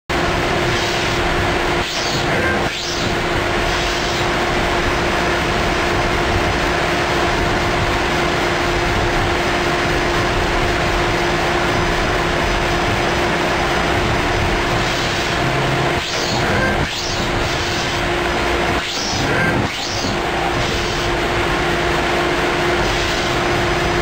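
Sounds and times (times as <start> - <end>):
lathe running: 2.7 - 24.0.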